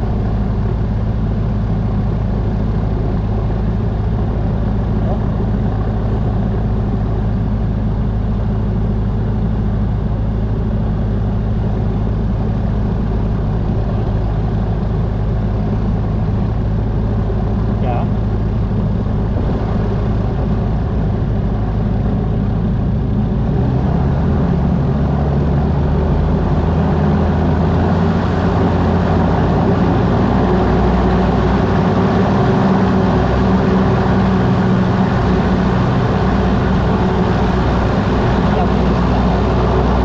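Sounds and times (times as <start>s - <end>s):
aircraft engine and propeller running: 0.0s - 40.0s.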